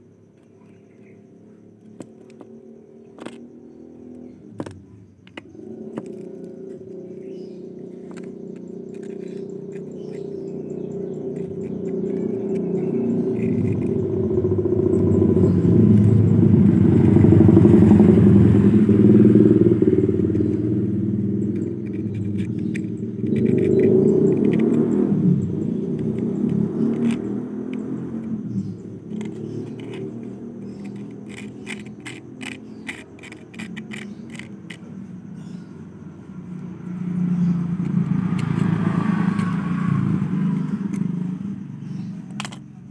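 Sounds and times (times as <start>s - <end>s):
engine running: 3.2s - 42.9s
rattling vibration: 4.5s - 42.9s.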